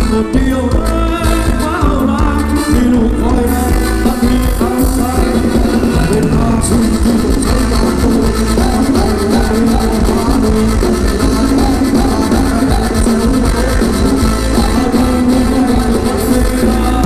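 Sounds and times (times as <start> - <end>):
live band playing dance music: 0.0 - 17.0
person singing: 0.0 - 17.0.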